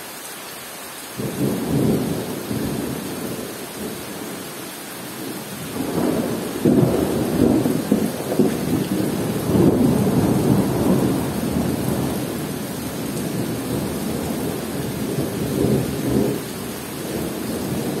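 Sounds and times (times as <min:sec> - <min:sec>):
rain on forest foliage: 0:00.0 - 0:18.0
rolling thunder: 0:01.2 - 0:04.4, 0:05.2 - 0:18.0.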